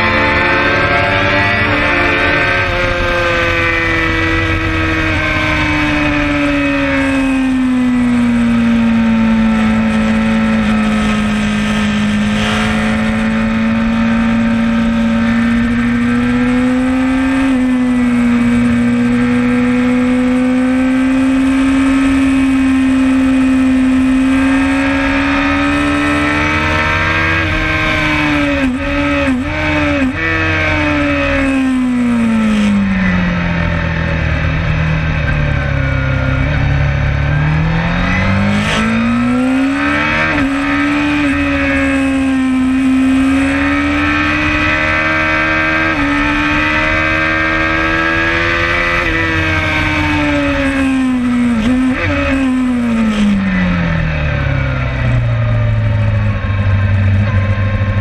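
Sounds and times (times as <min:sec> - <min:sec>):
motorcycle engine running hard: 0:00.0 - 0:58.0.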